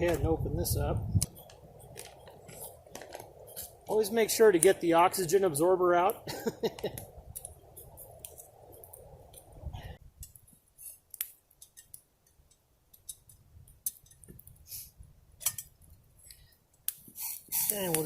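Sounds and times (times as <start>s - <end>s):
steady hiss: 0.1s - 18.0s.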